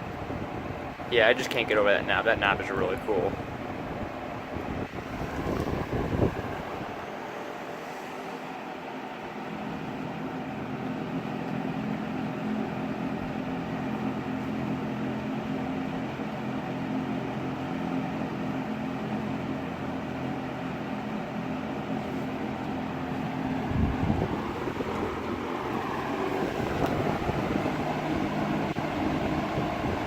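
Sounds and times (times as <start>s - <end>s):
box fan running: 0.0s - 30.0s.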